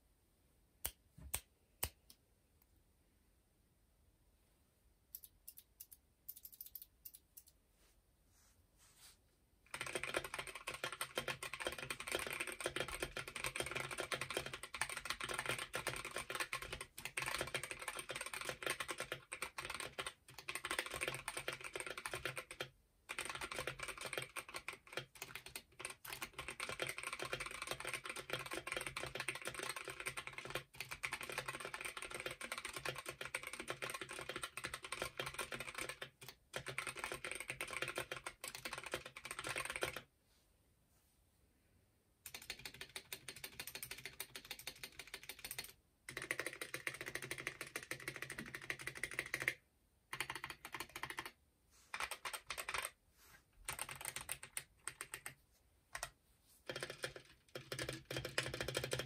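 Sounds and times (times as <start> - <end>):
typing on mechanical keyboard: 5.2 - 7.6, 9.7 - 40.1, 42.3 - 53.0, 53.6 - 59.0.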